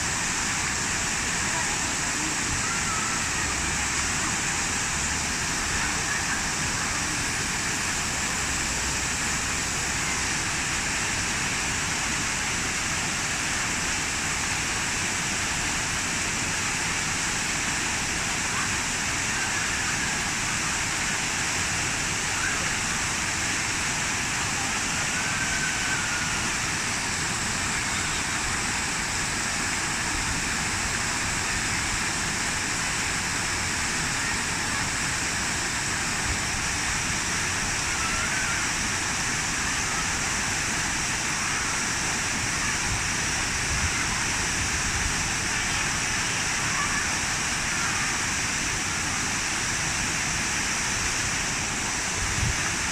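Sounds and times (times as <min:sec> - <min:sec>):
rush of falling water: 0:00.0 - 0:52.9.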